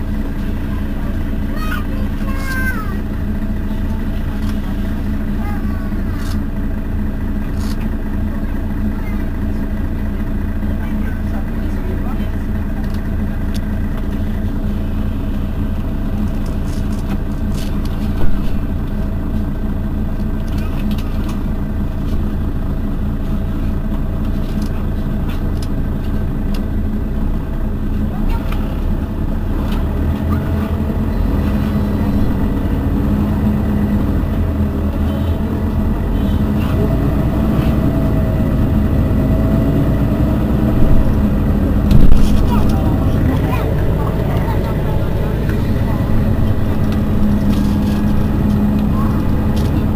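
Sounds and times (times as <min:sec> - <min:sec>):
bus engine idling: 0:00.0 - 0:49.9.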